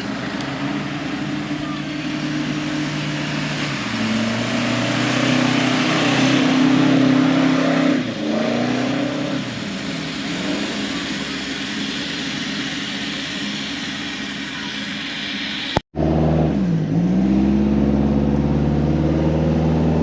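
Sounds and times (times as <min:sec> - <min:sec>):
off-road vehicle engine revving: 0:00.0 - 0:14.4, 0:15.9 - 0:20.0.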